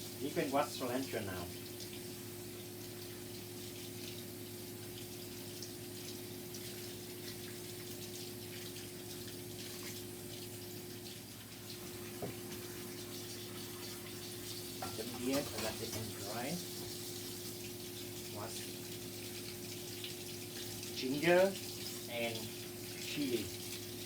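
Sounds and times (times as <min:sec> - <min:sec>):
tap water running: 0:00.0 - 0:24.0.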